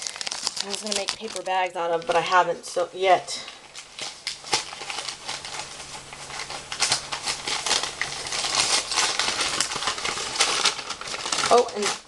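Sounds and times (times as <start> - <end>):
paper and packaging rustling: 0.0 - 2.4, 3.4 - 12.0.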